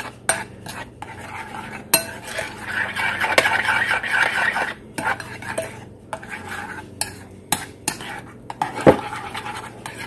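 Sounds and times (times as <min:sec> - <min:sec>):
whisking egg in a bowl: 0:00.0 - 0:10.0.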